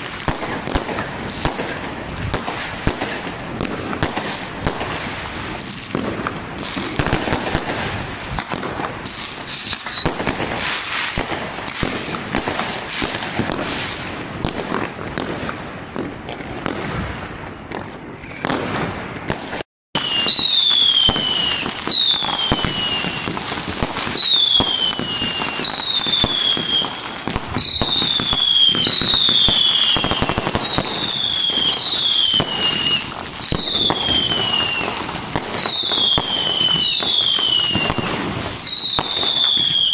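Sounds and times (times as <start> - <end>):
fireworks crackling and banging: 0.0 - 39.9
whistling fireworks: 0.0 - 39.9.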